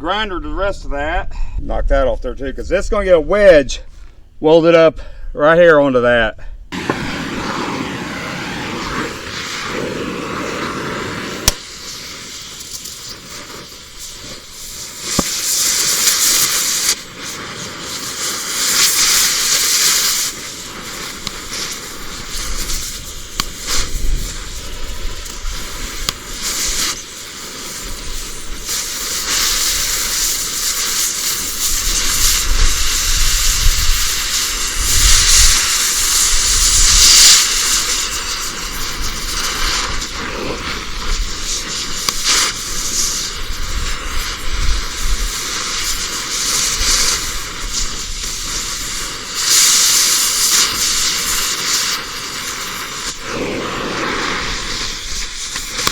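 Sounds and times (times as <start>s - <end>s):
steel cutting hiss and crackle: 6.7s - 55.9s.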